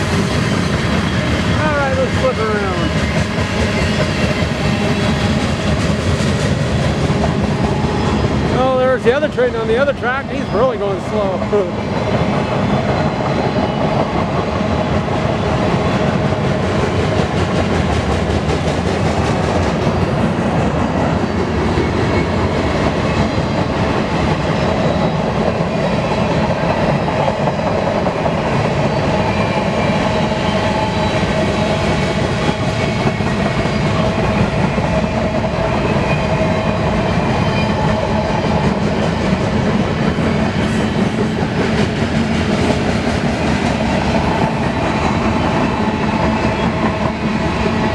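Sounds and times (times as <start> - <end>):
train wheels rumbling on track: 0.0 - 47.9.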